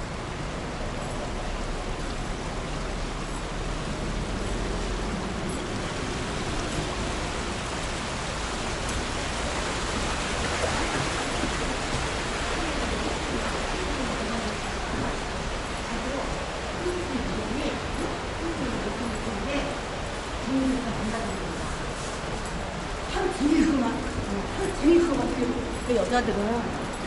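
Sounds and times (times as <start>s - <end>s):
stream rushing over stones: 0.0s - 27.0s.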